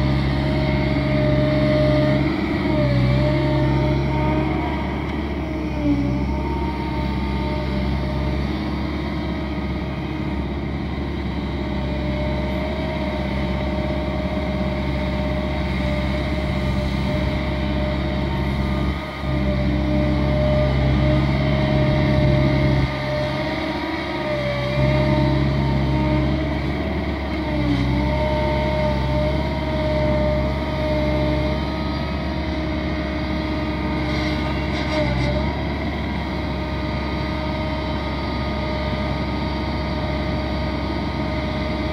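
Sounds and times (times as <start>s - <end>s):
excavator diesel engine droning: 0.0s - 41.9s
steady whine: 0.0s - 41.9s.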